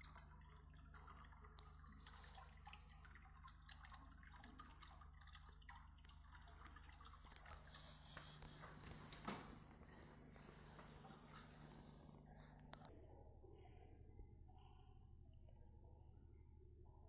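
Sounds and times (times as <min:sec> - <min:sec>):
aquarium water dripping: 0:00.0 - 0:17.0
steady low hum: 0:00.0 - 0:17.0.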